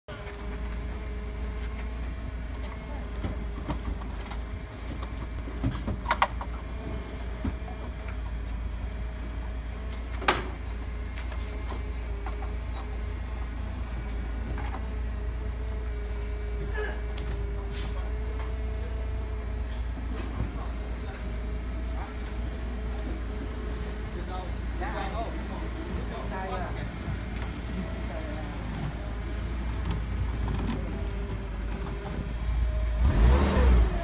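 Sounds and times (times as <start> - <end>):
forklift humming and whining: 0.1 - 34.0.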